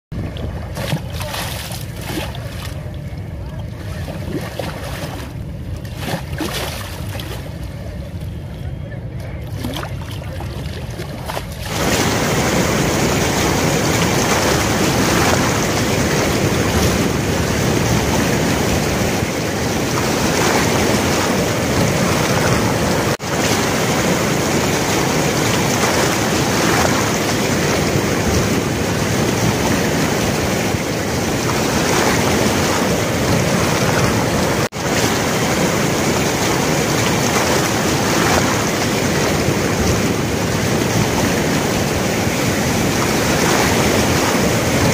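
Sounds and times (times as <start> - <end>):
water rushing: 0.1 - 44.9.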